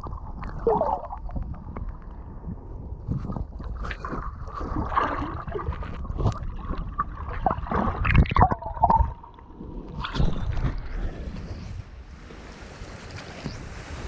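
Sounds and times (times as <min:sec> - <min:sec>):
muffled underwater sloshing: 0:00.0 - 0:11.3.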